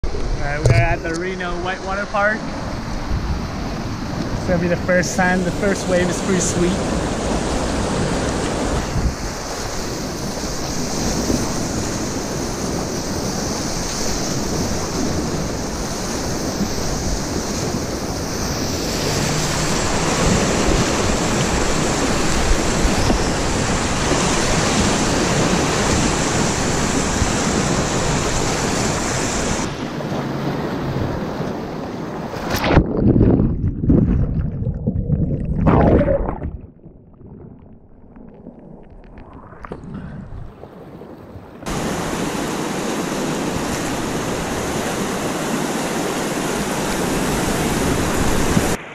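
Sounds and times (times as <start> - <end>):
whitewater rushing: 0.2 - 32.8, 41.6 - 48.9
wind buffeting microphone: 2.2 - 48.9.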